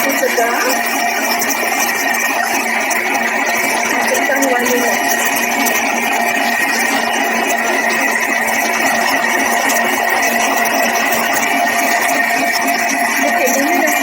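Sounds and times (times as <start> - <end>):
electric mixer beating batter: 0.0 - 14.0.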